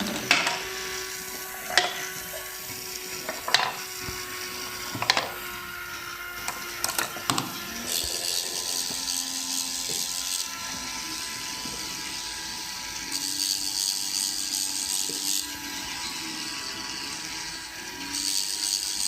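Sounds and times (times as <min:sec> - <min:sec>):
small electric motor whirring: 0:00.0 - 0:19.0.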